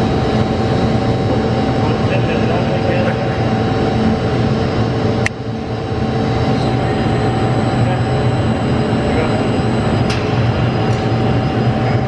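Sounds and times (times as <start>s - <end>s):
crane drives droning and humming: 0.0s - 12.0s.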